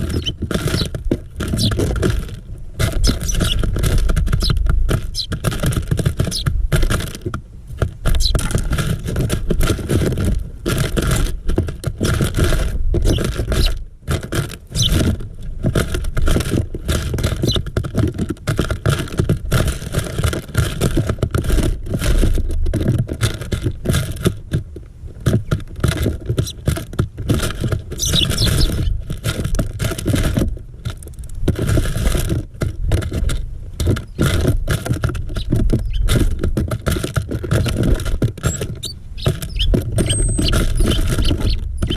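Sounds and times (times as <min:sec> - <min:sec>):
birds pecking on feeder: 0:00.0 - 0:41.9.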